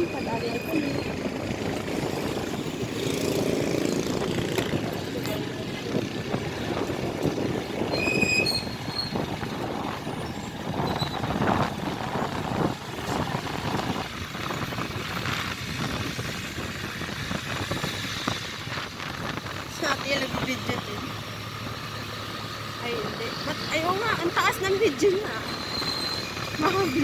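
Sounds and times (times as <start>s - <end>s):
vehicle engine and road noise: 0.0s - 27.0s.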